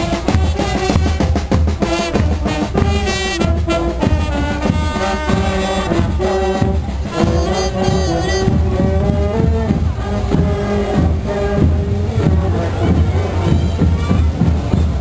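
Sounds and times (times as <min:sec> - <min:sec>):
carnival brass band playing: 0:00.0 - 0:15.0
steady drum beat: 0:00.0 - 0:15.0.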